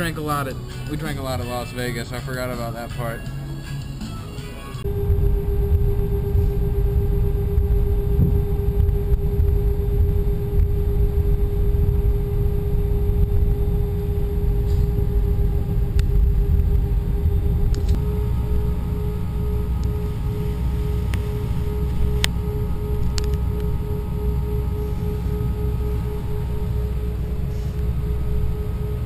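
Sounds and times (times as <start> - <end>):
constant hum: 0.0 - 29.0
vehicle rumble in motion: 0.0 - 29.0.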